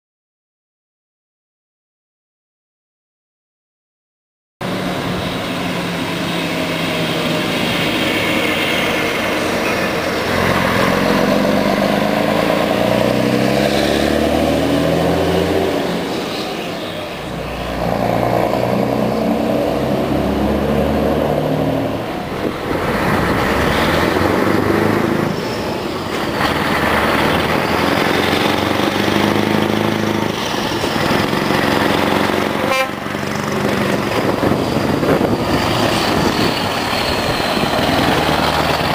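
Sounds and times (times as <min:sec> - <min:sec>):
truck engine revving: 0:04.6 - 0:38.9.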